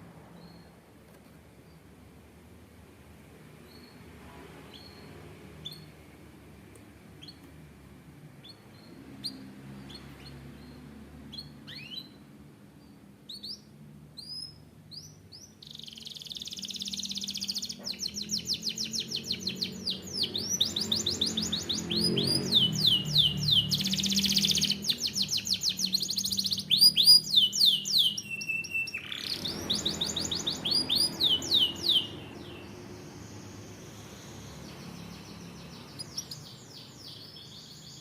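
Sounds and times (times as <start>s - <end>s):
canary singing: 4.7s - 6.1s, 7.1s - 7.6s, 8.4s - 38.0s.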